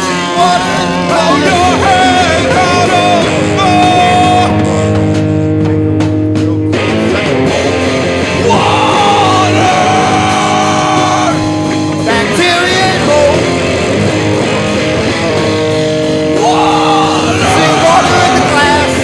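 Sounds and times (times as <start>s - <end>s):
person singing: 0.0s - 13.8s, 16.2s - 19.0s
punk rock band playing: 0.0s - 19.0s.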